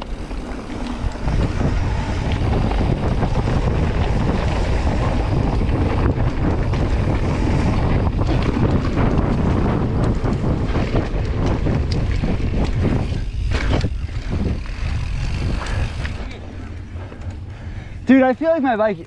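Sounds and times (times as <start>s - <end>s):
bike clicks and rattles: 0.0s - 19.0s
knobby tyres rolling on dirt: 0.0s - 19.0s
wind buffeting microphone: 0.0s - 19.0s.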